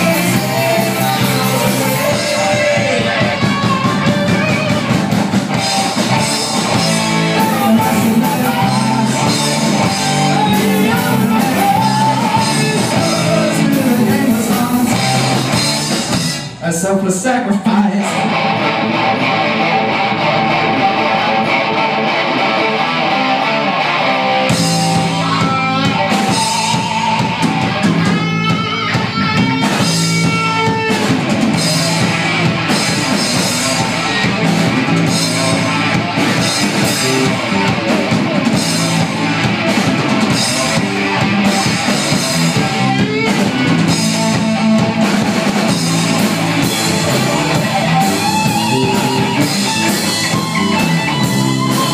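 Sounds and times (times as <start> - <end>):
lead guitar with bent notes: 0.0 - 51.9
rock band playing: 0.0 - 51.9.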